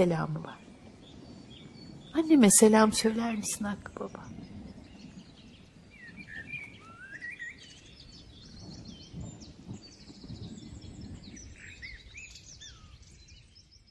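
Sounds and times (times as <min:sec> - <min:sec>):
birds chirping and calling: 0:00.0 - 0:13.5.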